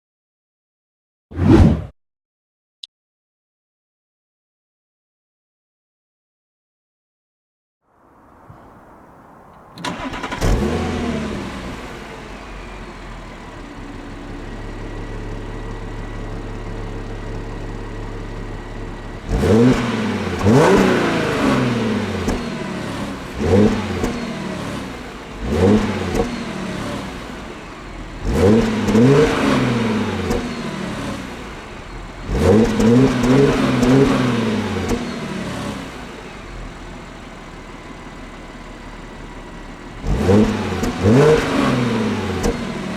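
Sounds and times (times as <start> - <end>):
car engine starting and idling: 7.9 - 42.9
car engine revving: 8.0 - 42.9.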